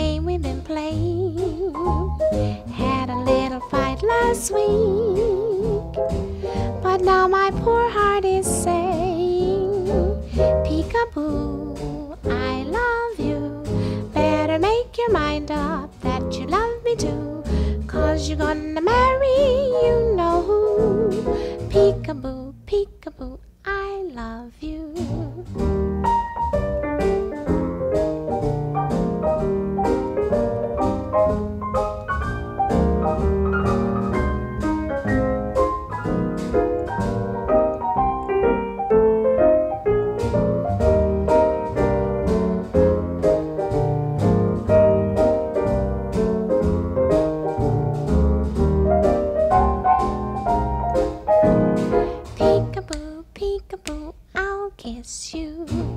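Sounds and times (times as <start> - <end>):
jazz piano instrumental: 0.0 - 22.6, 24.7 - 53.3, 54.0 - 55.9.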